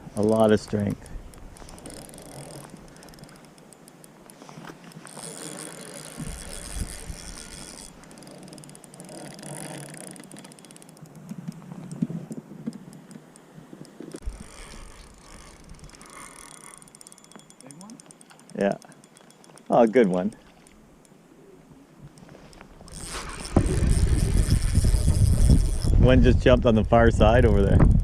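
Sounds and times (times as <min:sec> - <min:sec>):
fishing reel ticking: 0:00.2 - 0:21.2, 0:22.1 - 0:26.2.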